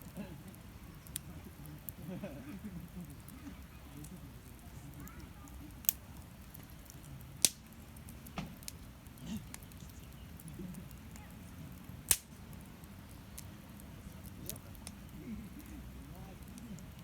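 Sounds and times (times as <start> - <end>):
fire crackling pops: 0.0 - 17.0
low rumble of bonfire flames: 0.0 - 17.0.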